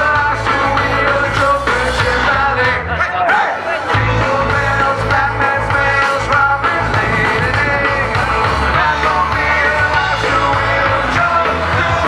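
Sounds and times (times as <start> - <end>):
bass guitar: 0.0 - 12.0
drum kit: 0.0 - 12.0
electric guitars: 0.0 - 12.0
vocals: 0.0 - 12.0.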